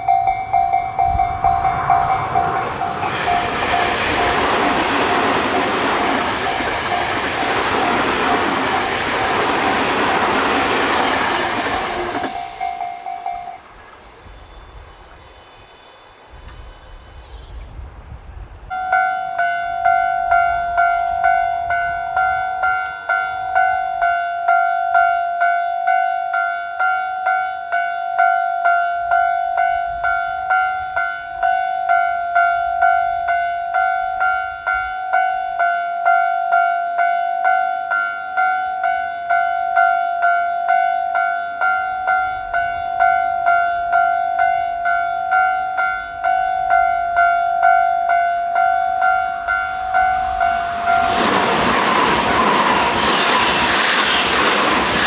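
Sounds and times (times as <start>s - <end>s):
level-crossing warning alarm ringing: 0.0s - 14.0s, 18.7s - 55.0s
passing train rushing: 0.0s - 26.3s, 29.0s - 55.0s.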